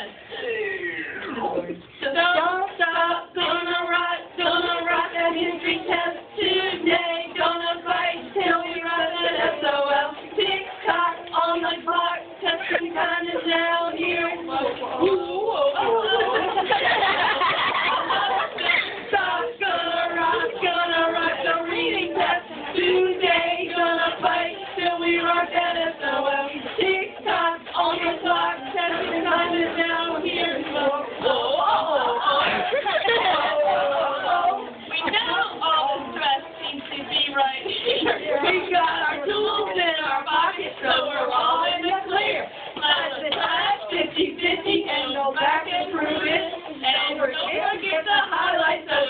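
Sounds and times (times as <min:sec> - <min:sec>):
women singing in unison: 0:01.8 - 0:49.0.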